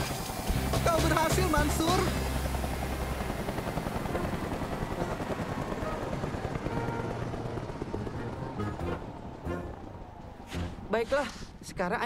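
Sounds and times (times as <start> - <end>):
low engine hum: 0.0 - 11.6
helicopter rotor chopping: 0.0 - 12.0.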